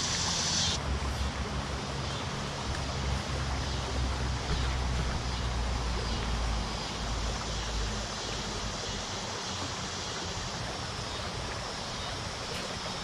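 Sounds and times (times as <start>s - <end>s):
traffic: 0.0s - 11.6s
running water: 0.0s - 13.0s.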